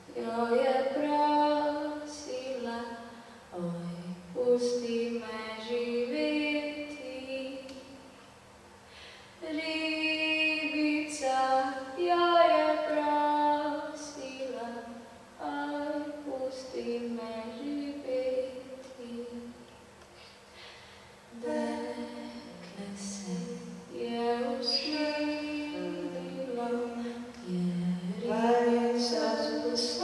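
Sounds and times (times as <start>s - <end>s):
women singing a cappella: 0.0s - 7.9s, 9.4s - 19.6s, 21.3s - 30.0s.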